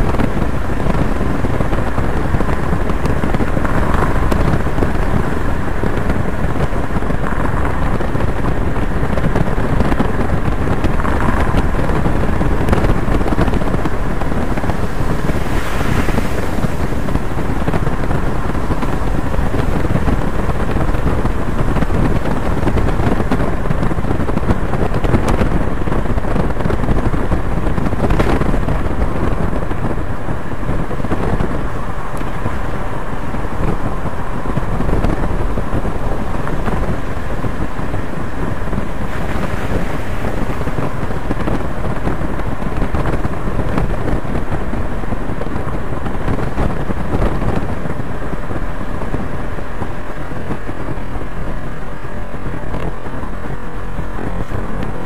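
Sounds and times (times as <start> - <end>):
vehicle road noise: 0.0 - 55.0
wind rushing over microphone: 0.0 - 55.0.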